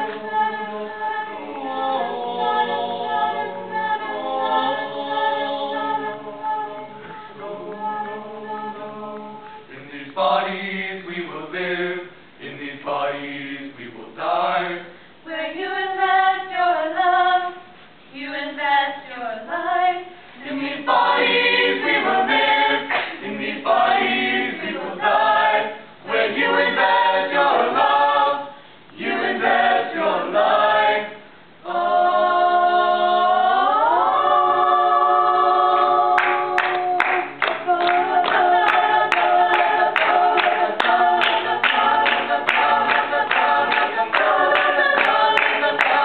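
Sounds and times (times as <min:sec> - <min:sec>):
choir singing a cappella: 0:00.0 - 0:46.0.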